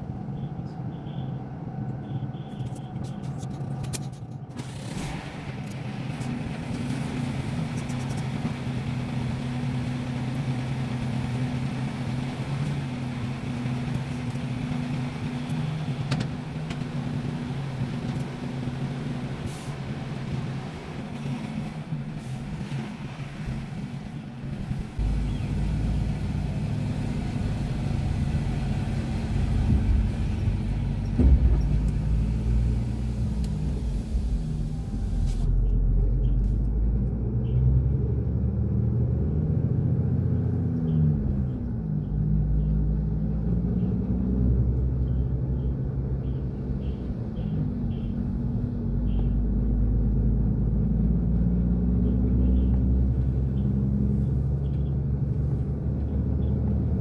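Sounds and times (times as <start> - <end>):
large vehicle engine rumble: 0.0 - 57.0.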